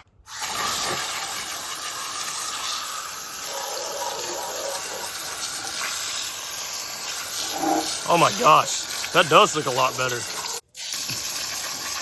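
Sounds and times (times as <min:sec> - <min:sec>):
water spraying: 0:00.3 - 0:12.0.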